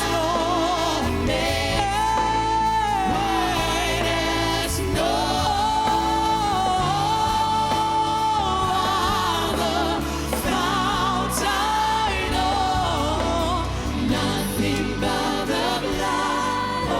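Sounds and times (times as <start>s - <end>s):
gospel band playing: 0.0s - 16.9s
singers holding long notes: 0.0s - 16.9s.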